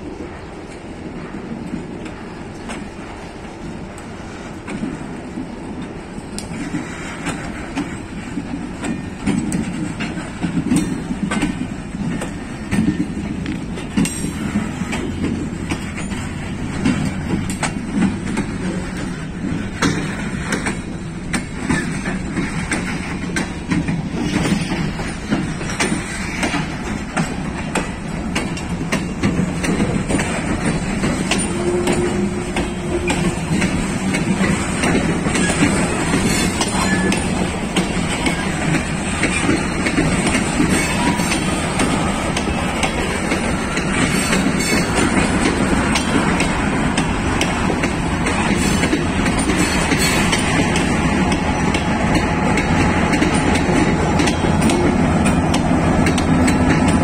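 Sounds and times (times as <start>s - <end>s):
diesel locomotive hauling freight cars: 0.0s - 57.0s
wheels clicking over rail joints: 0.0s - 57.0s.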